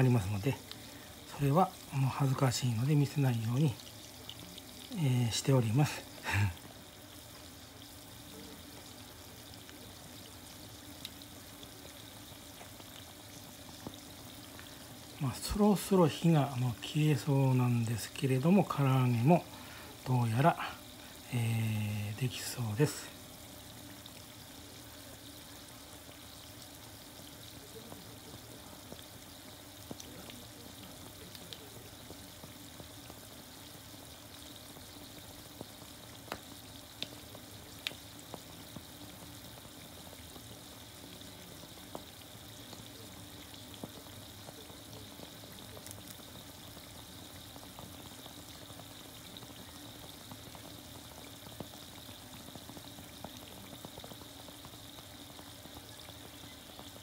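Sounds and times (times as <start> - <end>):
chicken deep-frying in oil: 0.0 - 57.0.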